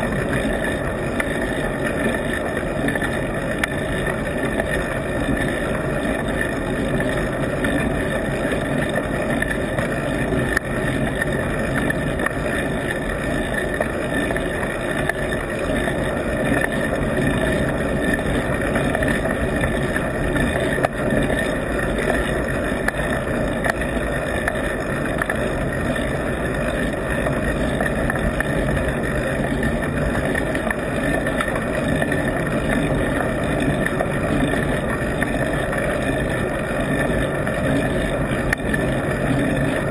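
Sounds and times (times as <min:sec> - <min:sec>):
faint steady whine: 0:00.0 - 0:39.9.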